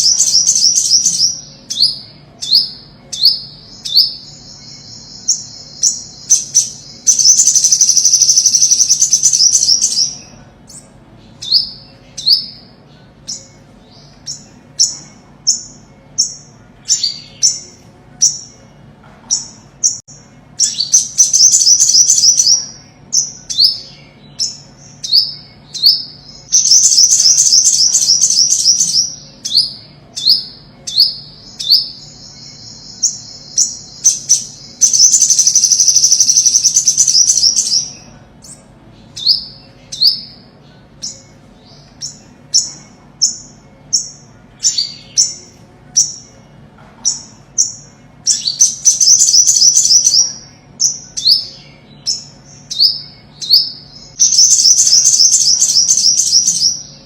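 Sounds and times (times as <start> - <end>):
bird chirping high and sharp: 0.0 - 18.6, 19.3 - 46.3, 47.1 - 57.0.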